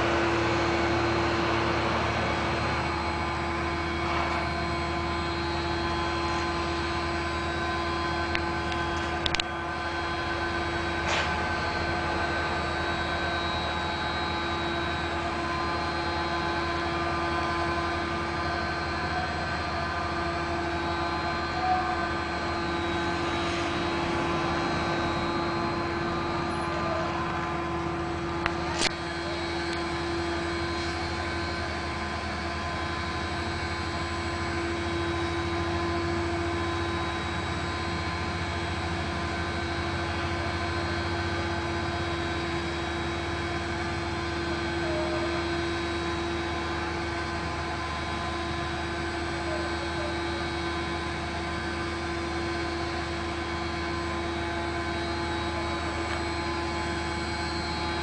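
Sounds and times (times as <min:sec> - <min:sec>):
machinery droning hum: 0:00.0 - 0:58.0.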